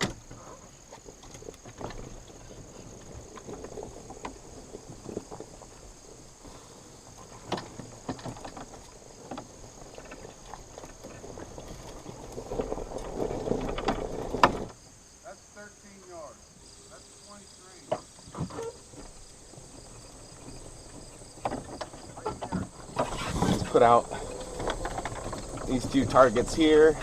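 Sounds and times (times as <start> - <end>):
insect chirring: 0.0 - 27.0.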